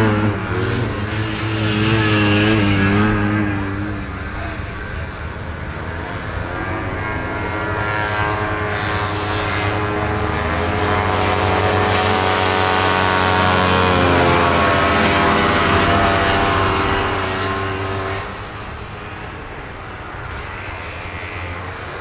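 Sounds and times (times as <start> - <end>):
snowmobile engines whining: 0.0 - 22.0.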